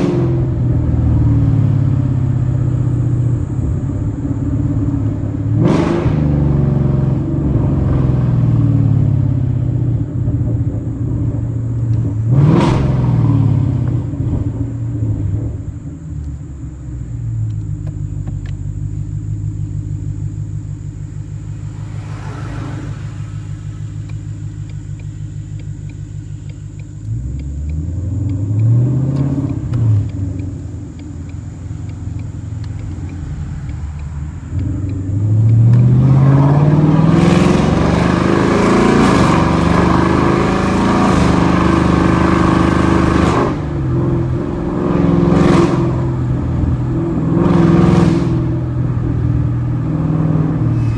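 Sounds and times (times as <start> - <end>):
car engine idling and revving: 0.0 - 50.9.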